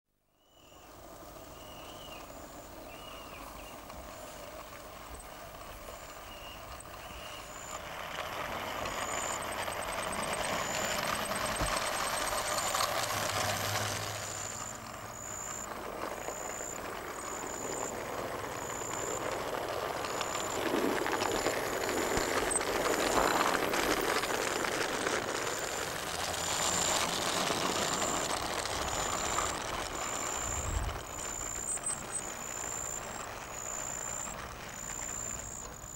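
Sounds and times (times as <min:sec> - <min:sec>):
model locomotive running on track: 0:00.2 - 0:35.9.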